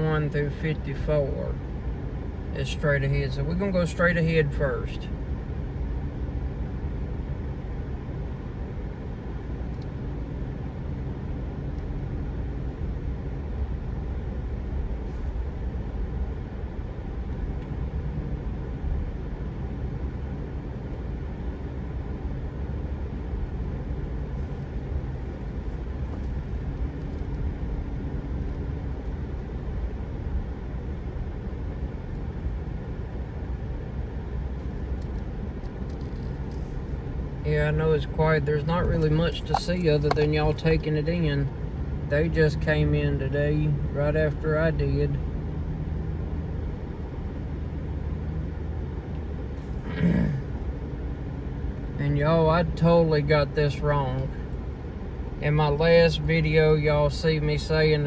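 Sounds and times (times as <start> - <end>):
road noise: 0.0 - 58.0
vehicle engine hum: 0.0 - 58.0.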